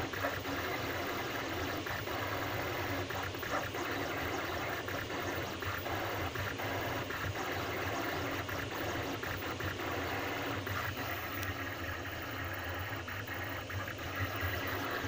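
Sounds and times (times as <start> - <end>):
printer stepper motors whirring: 0.0 - 15.0.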